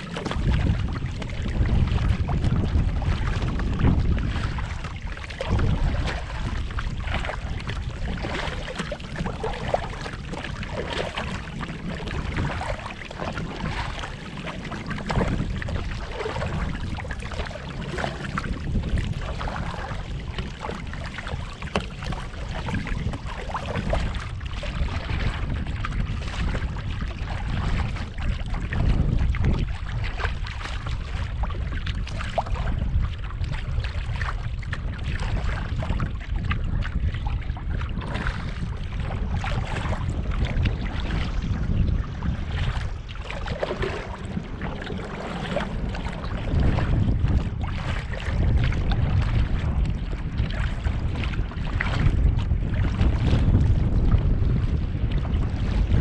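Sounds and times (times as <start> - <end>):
water splashing against a hull: 0.0 - 56.0
wind rumbling on microphone: 0.0 - 56.0.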